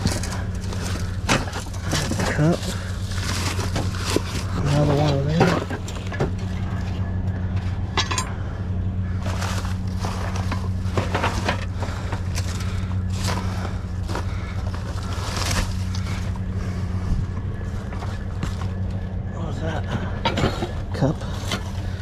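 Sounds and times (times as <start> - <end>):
metal junk clanking and rattling: 0.0 - 22.0
steady low hum: 0.0 - 22.0.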